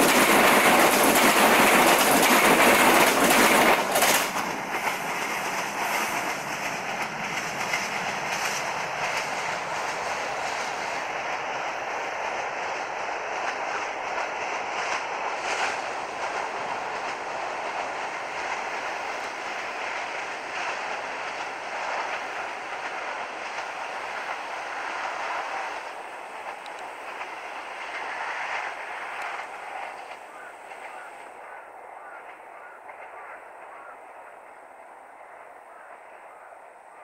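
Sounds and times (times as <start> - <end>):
train wheels knocking: 0.0 - 33.9
train wheels rushing on rail: 0.0 - 37.0.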